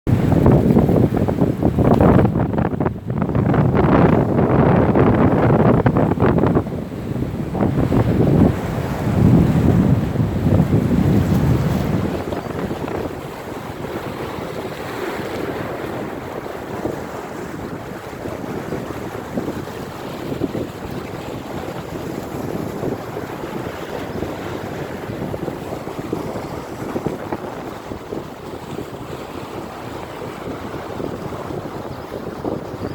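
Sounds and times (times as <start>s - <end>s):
wind buffeting microphone: 0.1s - 32.9s.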